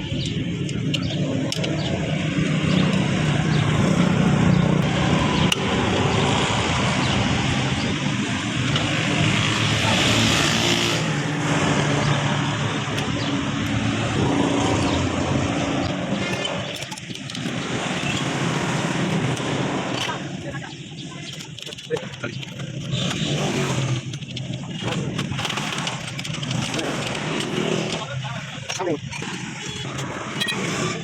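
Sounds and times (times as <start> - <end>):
road traffic noise: 0.0 - 31.0
vehicle engine droning: 0.0 - 31.0.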